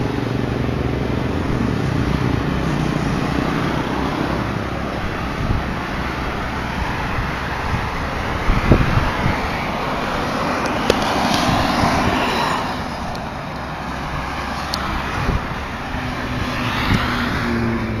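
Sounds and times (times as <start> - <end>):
low engine hum: 0.0 - 18.0
passing traffic: 0.0 - 18.0.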